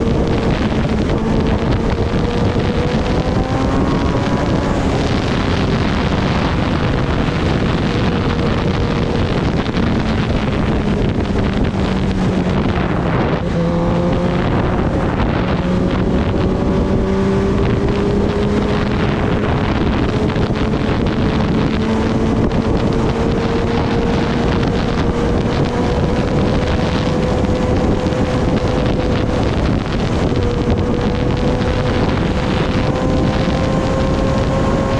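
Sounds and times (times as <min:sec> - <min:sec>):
motorcycle engine running: 0:00.0 - 0:34.9
wind noise on microphone: 0:00.0 - 0:34.9.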